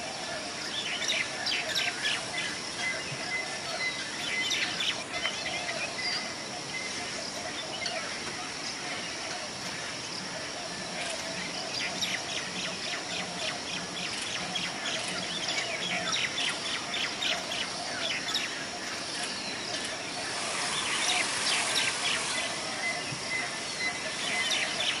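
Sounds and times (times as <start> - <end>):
outdoor background noise: 0.0 - 25.0
small birds chirping: 0.8 - 25.0.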